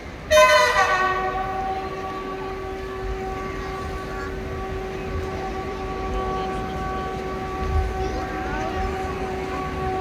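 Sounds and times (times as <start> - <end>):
murmuring crowd: 0.0 - 10.0
long steady held note: 0.3 - 10.0.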